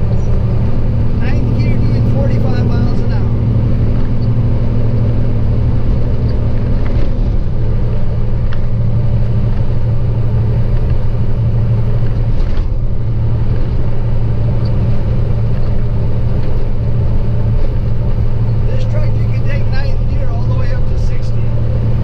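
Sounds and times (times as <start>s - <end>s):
road noise: 0.0s - 22.0s
truck engine droning: 0.0s - 22.0s.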